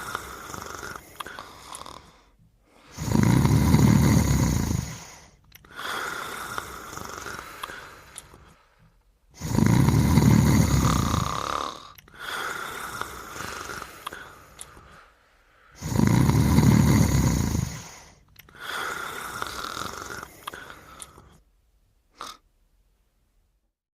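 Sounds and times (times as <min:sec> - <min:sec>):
loud low snores: 0:00.0 - 0:08.3, 0:09.3 - 0:14.7, 0:15.7 - 0:21.4, 0:22.1 - 0:22.4
soft breathing: 0:00.0 - 0:21.5.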